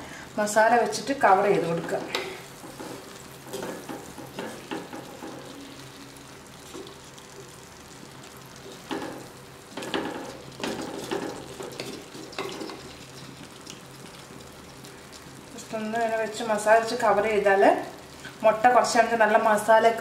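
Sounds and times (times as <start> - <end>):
low steady sizzle: 0.0 - 20.0.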